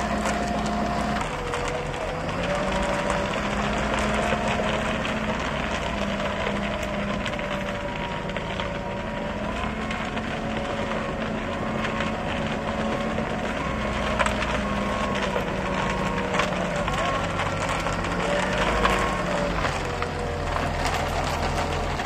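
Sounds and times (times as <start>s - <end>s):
diesel engine humming: 0.0s - 22.0s
machine crackling and rattling: 0.0s - 22.0s.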